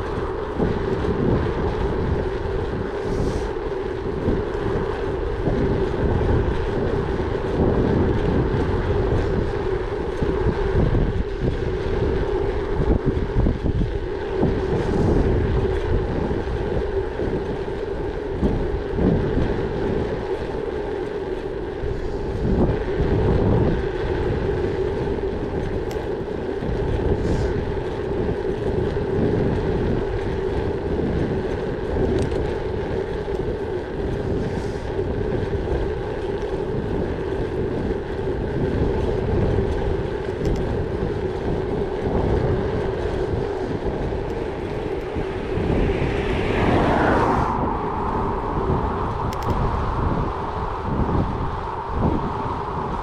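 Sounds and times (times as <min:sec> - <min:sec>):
bike tyres humming on road: 0:00.0 - 0:53.0
wind buffeting microphone: 0:00.0 - 0:53.0.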